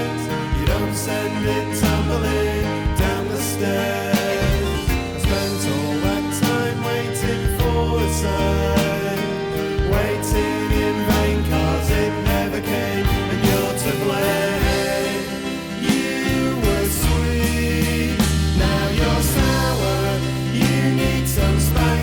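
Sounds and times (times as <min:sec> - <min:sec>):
bass line: 0:00.0 - 0:22.0
drums: 0:00.0 - 0:22.0
layered pitched instruments: 0:00.0 - 0:22.0.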